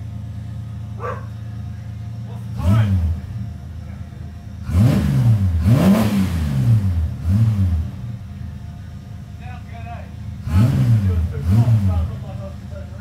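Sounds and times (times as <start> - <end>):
race car engine revving: 2.0 - 13.0.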